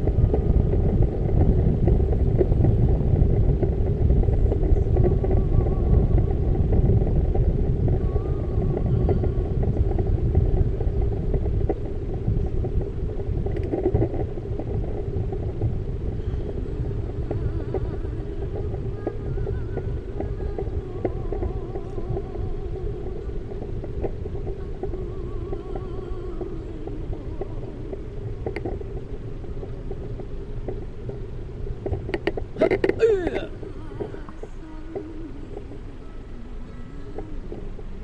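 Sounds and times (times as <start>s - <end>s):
road noise: 0.0s - 38.0s
wind buffeting microphone: 0.0s - 38.0s.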